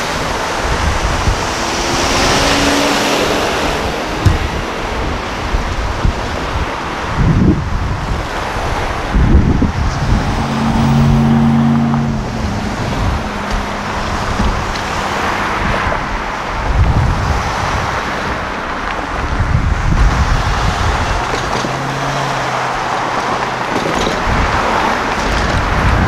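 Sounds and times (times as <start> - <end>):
traffic passing by: 0.0 - 26.0
vehicle engine humming: 0.0 - 26.0
wind buffeting microphone: 0.0 - 26.0.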